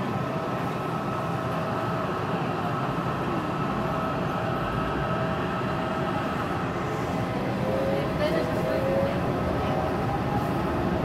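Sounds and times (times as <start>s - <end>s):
steady high whine: 0.0s - 11.0s
train rolling rumble: 0.0s - 11.0s.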